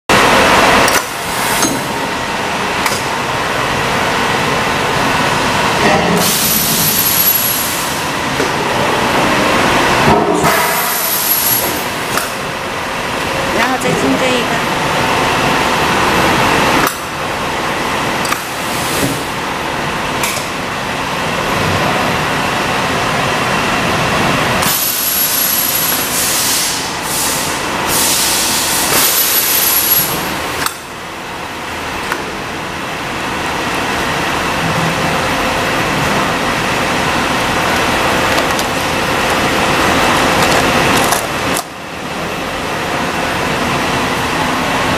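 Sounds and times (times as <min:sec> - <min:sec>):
machinery humming: 0:00.1 - 0:44.9.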